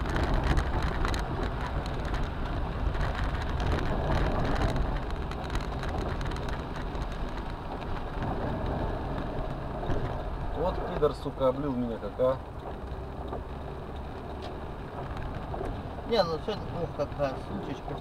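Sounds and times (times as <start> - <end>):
car driving on wet road: 0.0 - 18.0
heavy rain on car roof: 0.0 - 18.0.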